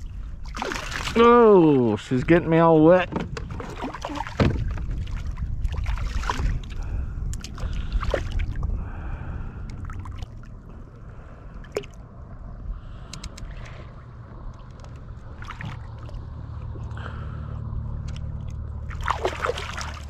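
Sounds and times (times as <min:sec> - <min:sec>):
steady low rumble: 0:00.0 - 0:20.0
water splashing and sloshing: 0:00.0 - 0:20.0.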